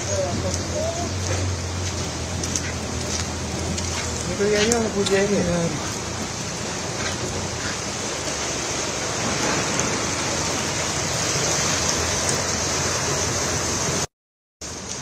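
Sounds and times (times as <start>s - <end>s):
floodwater rushing across road: 0.0s - 15.0s.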